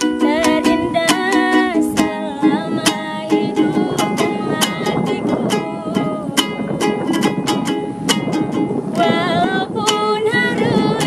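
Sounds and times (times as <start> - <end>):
woman singing: 0.0 - 7.2, 8.9 - 11.0
ukulele strumming: 0.0 - 11.0.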